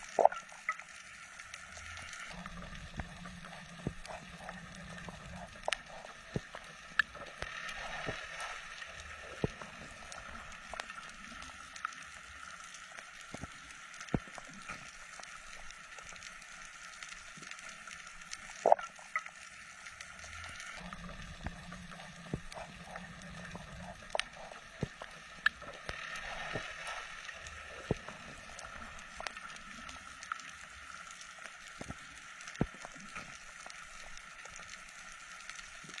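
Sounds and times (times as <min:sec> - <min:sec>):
bubbling and gurgling: 0:00.0 - 0:36.0
sharp clicks and crackles: 0:00.0 - 0:36.0.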